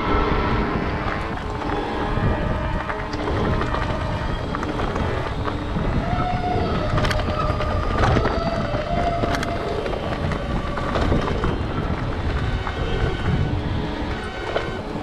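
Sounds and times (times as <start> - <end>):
bike tyre noise: 0.0 - 15.0
faint squeal: 0.0 - 15.0
wind buffeting microphone: 0.0 - 15.0
bike rattling clicks: 1.0 - 15.0.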